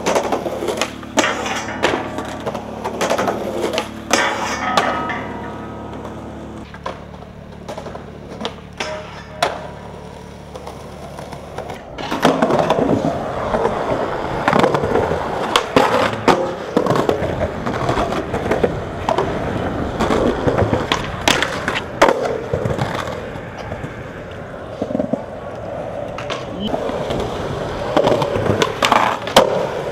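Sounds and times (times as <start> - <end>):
low steady hum: 0.0 - 29.9
skateboard clacks: 0.0 - 29.9
skateboard wheels rumbling: 0.0 - 29.9.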